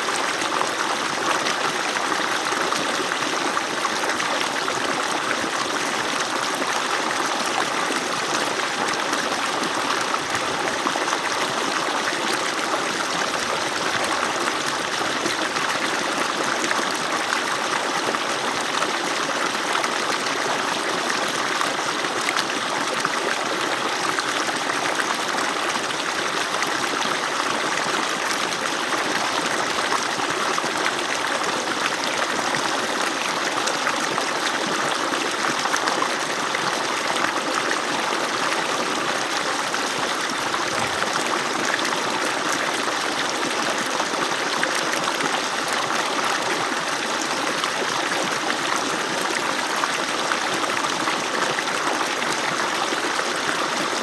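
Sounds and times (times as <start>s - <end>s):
water rushing from pipe: 0.0s - 54.0s.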